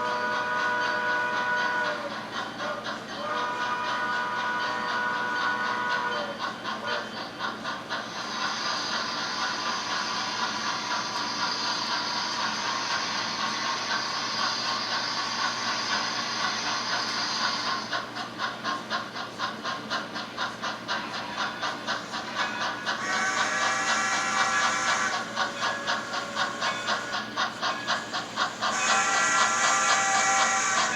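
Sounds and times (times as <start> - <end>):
locomotive exhaust chuffs: 0.0 - 30.9
steam hissing: 0.0 - 30.9.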